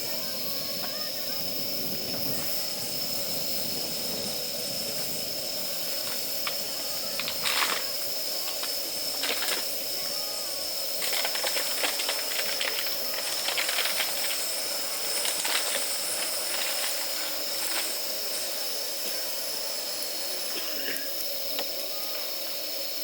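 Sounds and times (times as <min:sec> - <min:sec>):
campfire crackling and popping: 0:00.0 - 0:21.8
fire hiss: 0:00.0 - 0:23.0.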